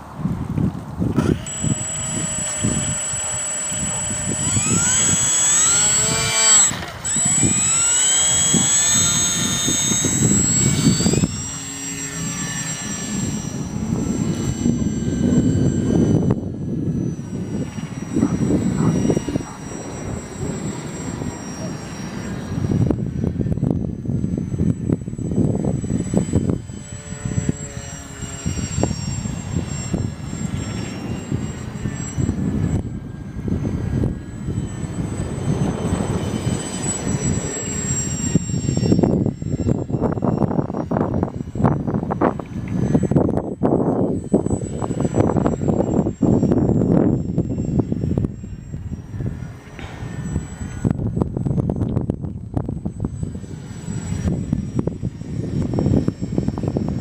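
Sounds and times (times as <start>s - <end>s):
aerobatic plane engine: 0.0s - 57.0s
faint high whine: 0.0s - 57.0s
wind buffeting microphone: 0.0s - 57.0s.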